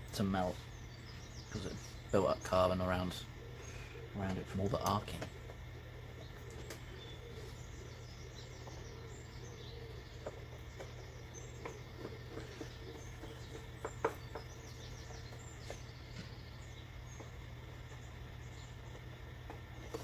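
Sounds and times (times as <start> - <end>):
faint bird chirps: 0.0 - 20.0
steady low hum: 0.0 - 20.0.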